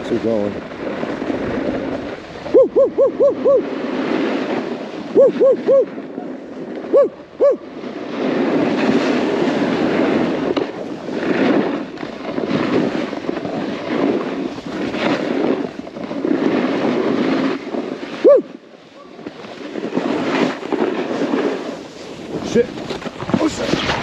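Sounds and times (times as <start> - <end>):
snowboard scraping over snow: 0.0 - 24.0
wind on microphone: 0.0 - 24.0.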